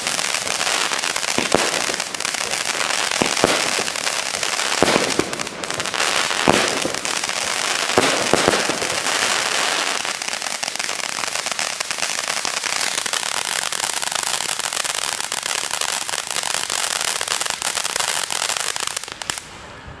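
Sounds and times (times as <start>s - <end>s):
firework bangs: 0.0s - 19.7s
firework crackling: 0.0s - 19.8s.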